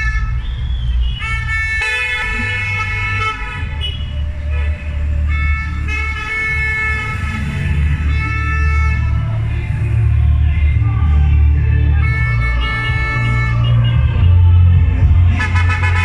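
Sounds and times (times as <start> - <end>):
car horns honking: 0.0 - 9.5, 11.7 - 16.0
engine and road noise rumble: 0.0 - 16.0.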